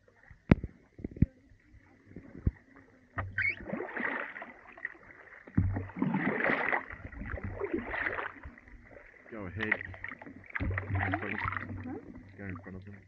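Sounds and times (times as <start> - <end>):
paddle splashing in icy water: 2.0 - 13.0.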